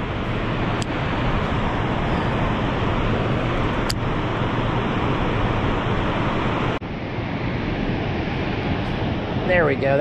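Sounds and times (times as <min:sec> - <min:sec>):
river water rushing: 0:00.0 - 0:09.8.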